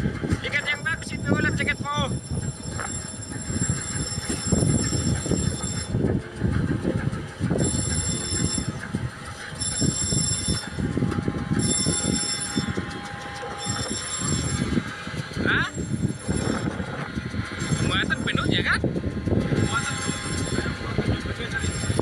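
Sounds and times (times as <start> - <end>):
boat engine rumbling: 0.0 - 22.0
high-pitched tone: 0.0 - 22.0.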